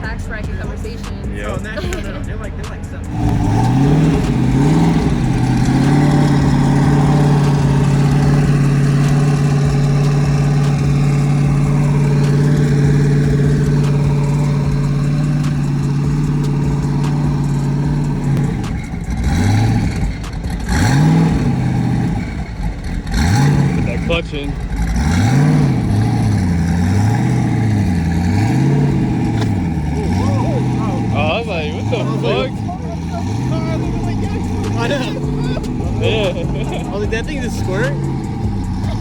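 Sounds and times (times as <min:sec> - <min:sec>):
sports car engine revving: 0:00.0 - 0:39.0.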